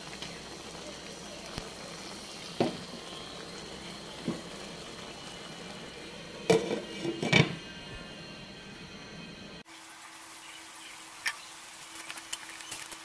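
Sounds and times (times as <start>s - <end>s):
food sizzling in a pan: 0.0s - 7.7s, 9.6s - 13.0s.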